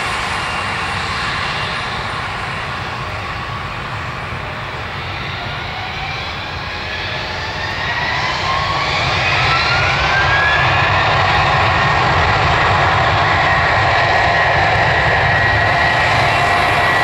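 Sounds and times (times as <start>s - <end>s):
jet engines spooling up: 0.0s - 17.0s.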